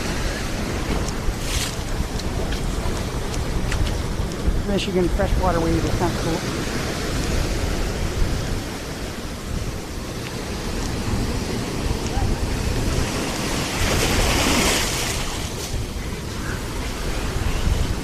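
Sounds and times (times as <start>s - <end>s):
surf breaking on a beach: 0.0s - 18.0s
wind rumble on microphone: 0.0s - 18.0s.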